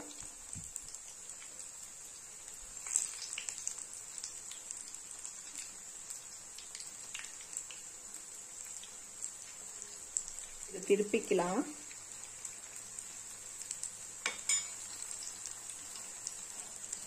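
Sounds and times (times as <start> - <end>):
cutlets sizzling in hot oil: 0.0 - 17.0
oil popping and crackling: 0.0 - 17.0.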